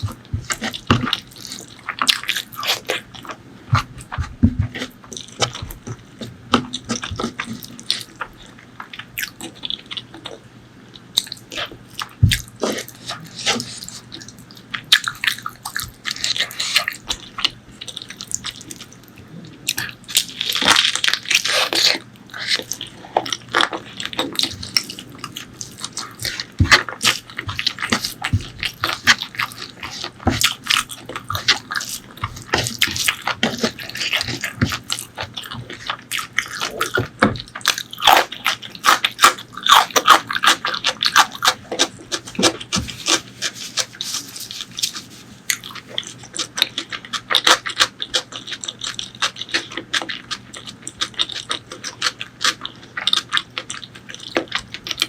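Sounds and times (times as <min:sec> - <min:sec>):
wet chewing: 0:00.0 - 0:10.4, 0:11.0 - 0:55.0.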